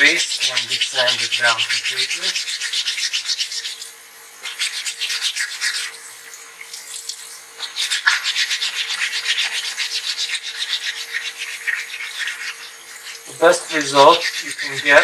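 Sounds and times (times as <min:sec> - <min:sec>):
sandpaper scratching on stone: 0:00.0 - 0:06.0, 0:07.6 - 0:15.0.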